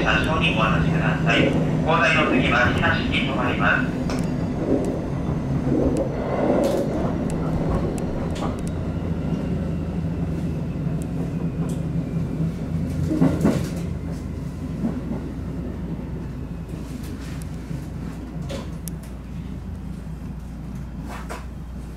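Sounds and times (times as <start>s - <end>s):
electric train low hum: 0.0s - 21.9s.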